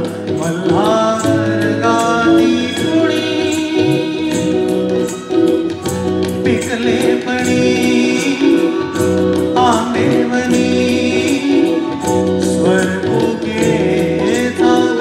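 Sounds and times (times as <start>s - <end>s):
instrumental accompaniment: 0.0s - 15.0s
man singing: 0.0s - 15.0s.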